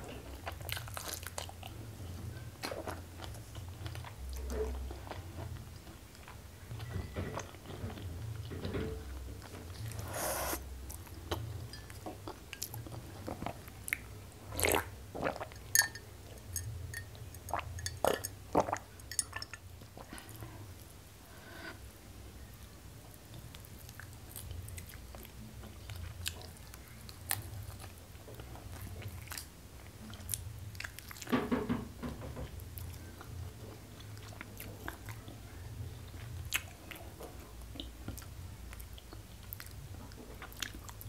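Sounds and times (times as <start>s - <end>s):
chewing with wet clicks: 0.3s - 1.8s, 2.6s - 8.5s, 10.9s - 20.3s, 23.3s - 31.3s, 32.8s - 41.0s.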